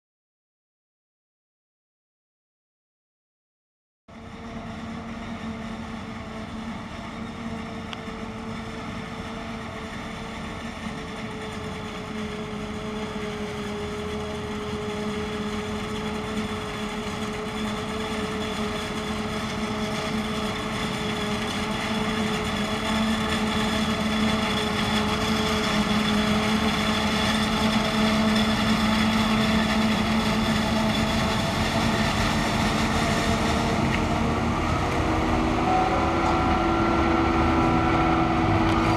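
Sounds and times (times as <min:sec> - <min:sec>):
harvester machine drone: 0:04.1 - 0:38.9
high machine whine: 0:04.1 - 0:38.9.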